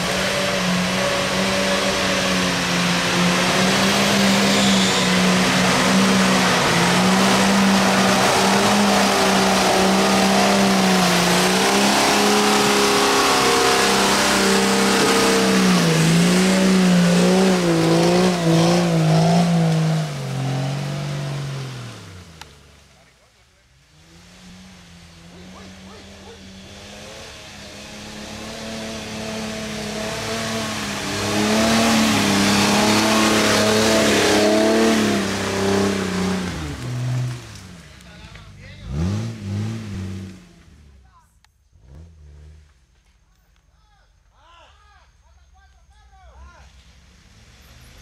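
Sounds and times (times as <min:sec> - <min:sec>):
off-road vehicle engine revving: 0:00.0 - 0:43.0, 0:46.4 - 0:48.0.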